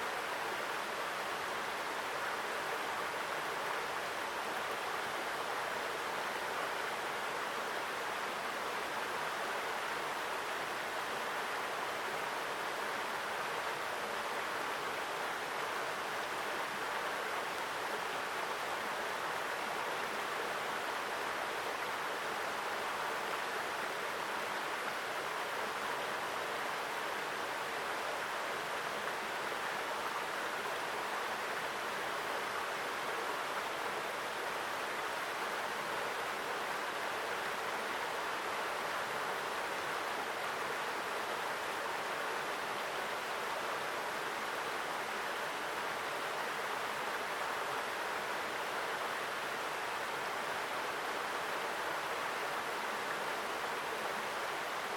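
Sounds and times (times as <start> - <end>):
stream flowing over rocks: 0.0 - 54.9.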